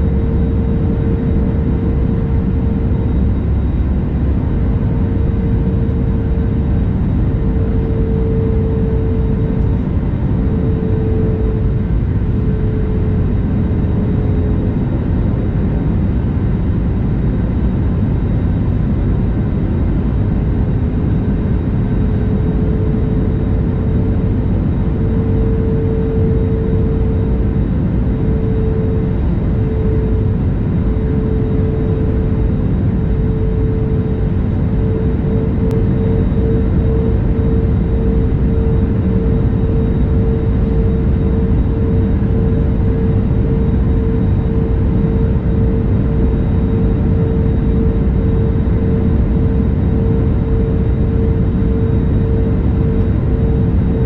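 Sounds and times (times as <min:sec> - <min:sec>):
aircraft cabin engine noise: 0:00.0 - 0:54.0
mid-pitched hum: 0:00.0 - 0:54.0.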